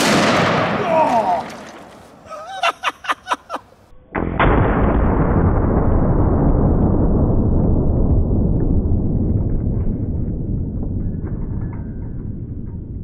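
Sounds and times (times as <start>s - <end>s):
slowed gunshot boom: 0.0s - 1.9s, 4.1s - 13.0s.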